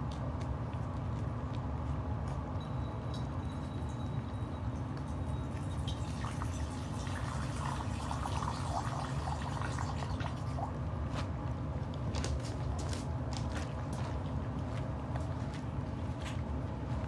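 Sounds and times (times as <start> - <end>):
puppies chewing and lapping: 0.0 - 17.0
steady low hum: 0.0 - 17.0.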